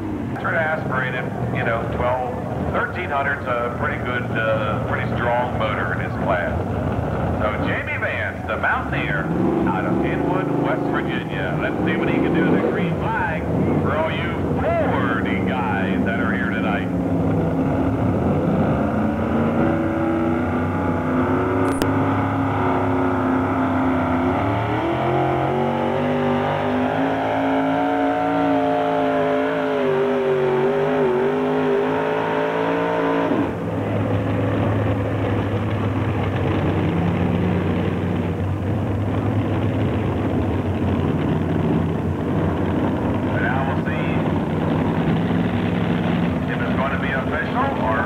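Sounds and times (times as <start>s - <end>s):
pulling truck engine running hard: 0.0s - 48.0s
truck engine at lower revs: 0.0s - 48.0s.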